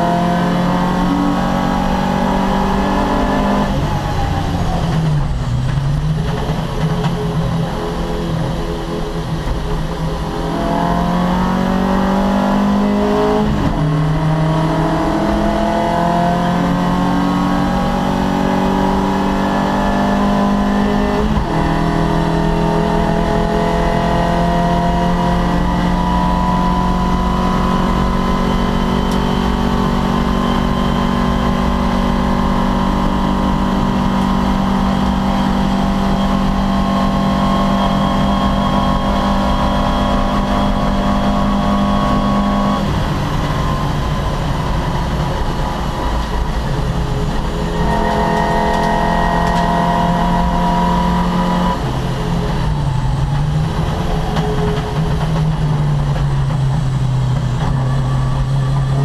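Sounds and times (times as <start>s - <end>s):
racing car engine accelerating: 0.0s - 59.0s.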